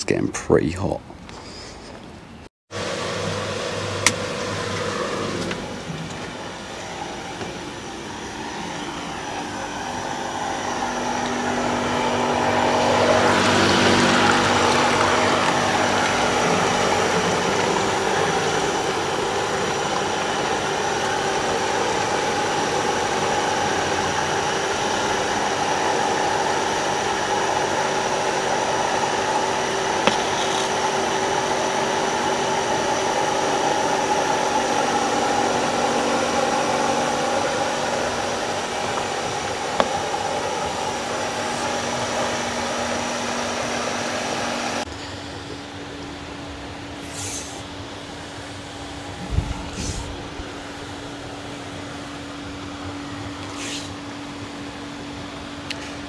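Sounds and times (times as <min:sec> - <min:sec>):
pool pump motor hum: 0:02.7 - 0:56.0.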